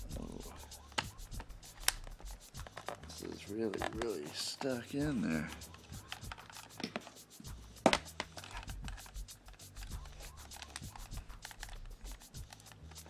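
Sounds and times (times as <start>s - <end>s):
soft background music: 0.0s - 13.0s
screwdriver scraping and clicking: 0.2s - 13.0s.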